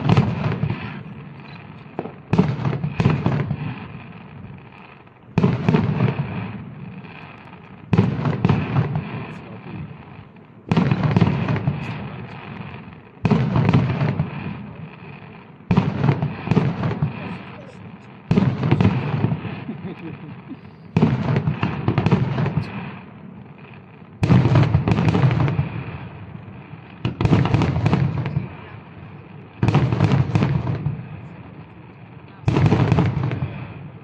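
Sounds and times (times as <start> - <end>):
firework shells bursting: 0.0 - 28.5.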